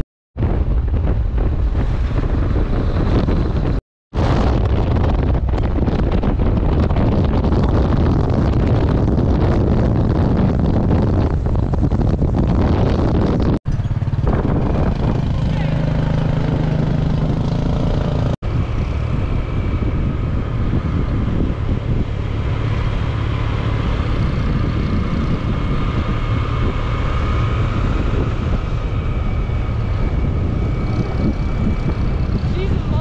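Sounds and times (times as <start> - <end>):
motorbike engine drone: 0.4 - 33.0
wind rumble on microphone: 0.4 - 33.0.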